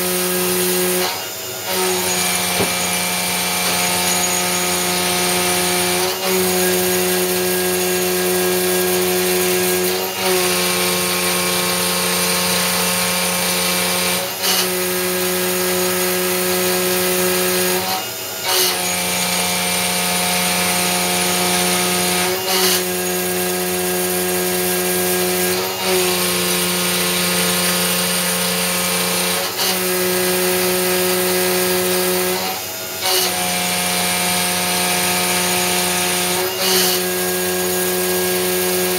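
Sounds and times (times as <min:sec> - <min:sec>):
milling cutter whining on metal: 0:00.0 - 0:38.9.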